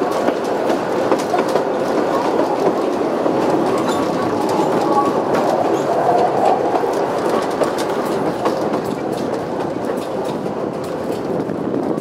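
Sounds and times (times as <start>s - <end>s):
train wheels rumbling on track: 0.0s - 12.0s
wheels clicking over rail joints: 0.0s - 12.0s.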